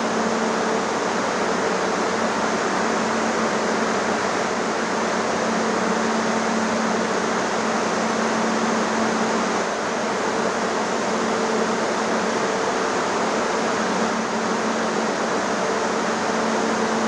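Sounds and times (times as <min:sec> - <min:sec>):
dryer fan and machinery running: 0:00.0 - 0:17.0.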